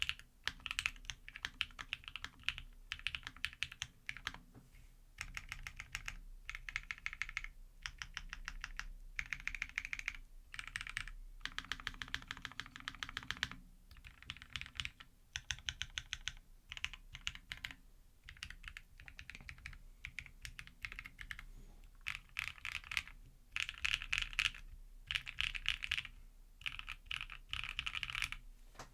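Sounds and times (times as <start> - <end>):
mechanical keyboard typing: 0.0 - 4.4, 5.2 - 21.4, 22.0 - 28.4.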